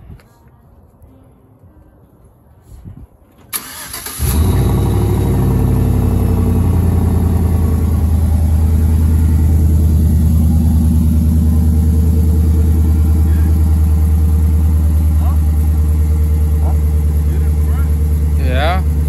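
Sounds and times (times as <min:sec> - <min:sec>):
truck engine idling: 0:03.6 - 0:19.0.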